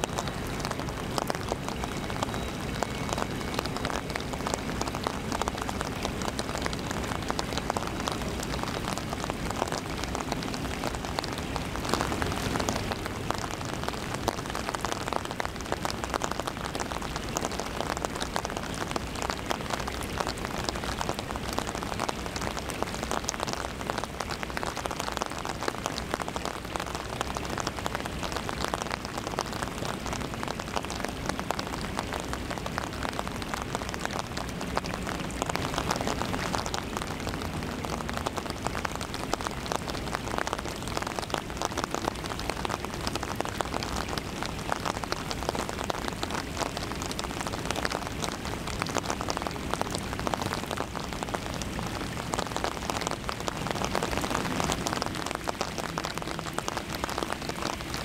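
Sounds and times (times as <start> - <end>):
rain spattering on umbrella: 0.0 - 58.0.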